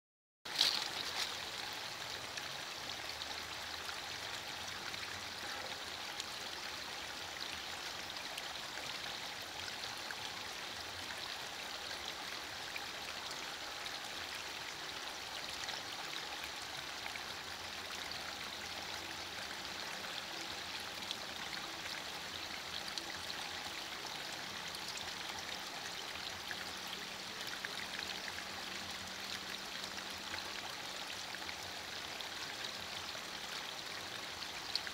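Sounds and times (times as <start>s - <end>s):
patter of raindrops: 0.5s - 34.9s
steady rain falling: 0.5s - 34.9s.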